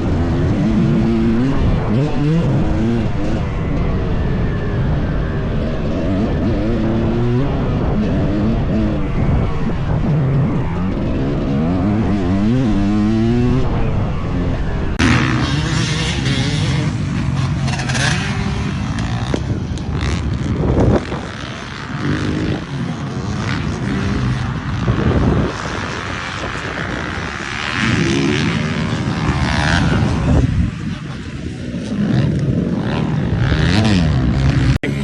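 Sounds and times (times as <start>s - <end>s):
dirt bike engine revving: 0.0s - 4.3s, 4.9s - 35.0s.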